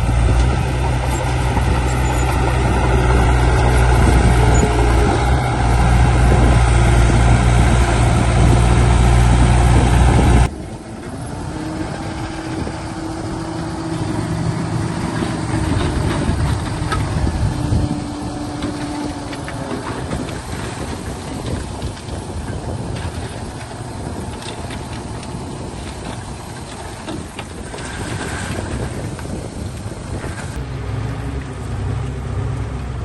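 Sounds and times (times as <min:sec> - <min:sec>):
heavy machinery diesel engine: 0:00.0 - 0:33.0
held engine tone: 0:00.0 - 0:33.0
loud engine sound: 0:00.0 - 0:33.0.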